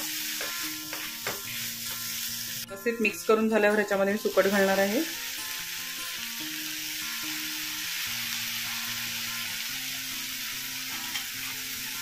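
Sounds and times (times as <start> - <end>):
masala sizzling in oil: 0.0 - 12.0
soft background music: 0.0 - 12.0.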